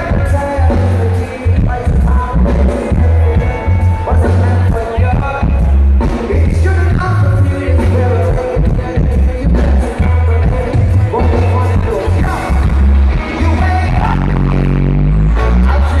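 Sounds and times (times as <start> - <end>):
lead vocalist singing: 0.0 - 16.0
reggae band playing: 0.0 - 16.0.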